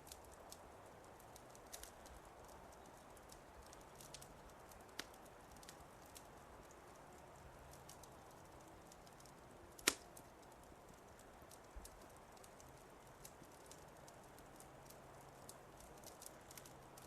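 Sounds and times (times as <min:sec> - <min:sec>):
wood fire crackling softly: 0:00.0 - 0:17.0.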